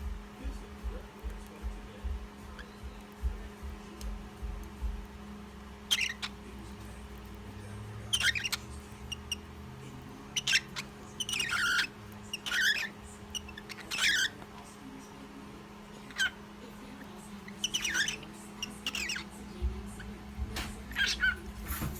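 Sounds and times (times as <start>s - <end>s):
steady low hum: 0.0s - 21.9s
cockatiel chirping: 0.6s - 14.6s, 15.9s - 21.9s.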